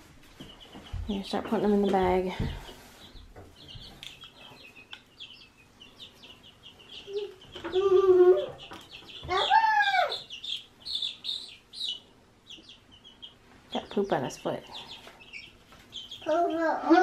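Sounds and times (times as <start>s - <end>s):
baby chicks peeping: 0.0s - 17.0s.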